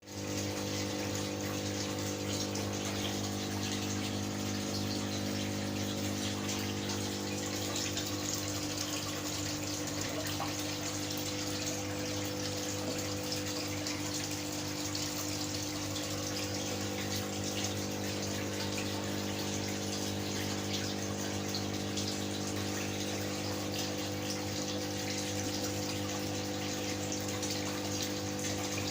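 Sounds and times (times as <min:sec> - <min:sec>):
water pouring and splashing: 0:00.0 - 0:28.9
aquarium pump humming: 0:00.1 - 0:28.9.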